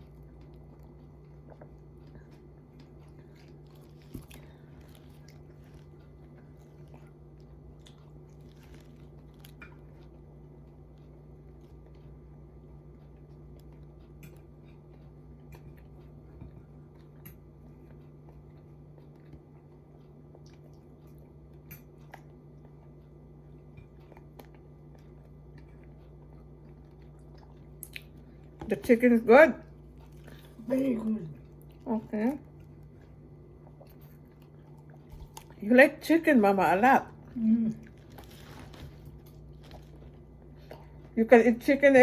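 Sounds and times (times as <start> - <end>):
chewing crisp fried chicken: 0.0 - 36.3, 37.0 - 41.8
steady low hum: 0.0 - 42.0.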